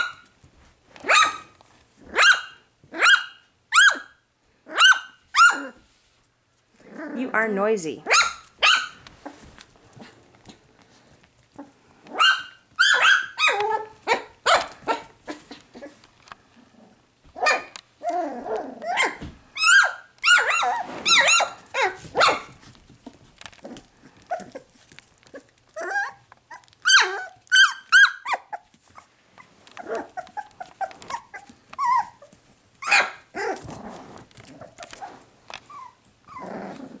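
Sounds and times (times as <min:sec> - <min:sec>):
puppies yapping and barking: 0:00.0 - 0:00.3, 0:01.0 - 0:05.9, 0:08.1 - 0:09.5, 0:11.6 - 0:16.0, 0:17.3 - 0:22.8, 0:23.5 - 0:37.0.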